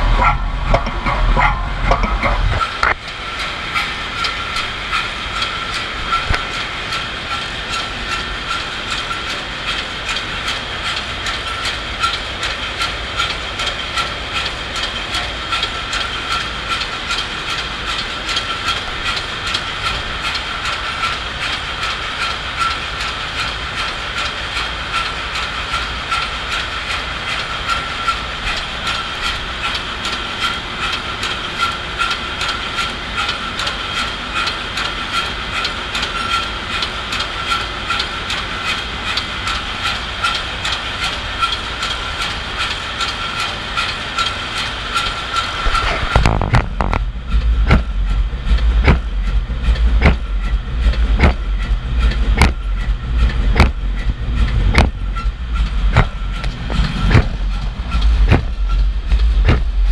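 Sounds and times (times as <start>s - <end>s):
rapid ticking: 0.0s - 59.9s
ship engine running: 0.0s - 59.9s.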